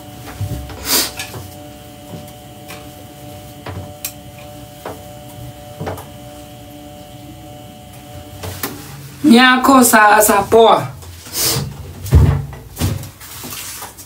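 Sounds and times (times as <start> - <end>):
steady hum of fixed tones: 0.0 - 12.9.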